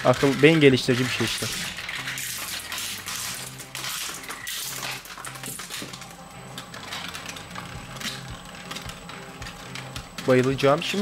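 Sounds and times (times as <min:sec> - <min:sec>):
machine low hum: 0:00.0 - 0:11.0
shredder blades cracking plastic: 0:00.0 - 0:11.0.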